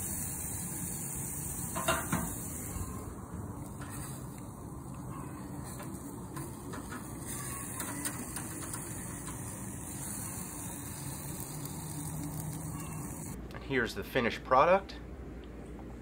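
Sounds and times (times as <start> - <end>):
meat sizzling on grill: 0.0 - 13.4.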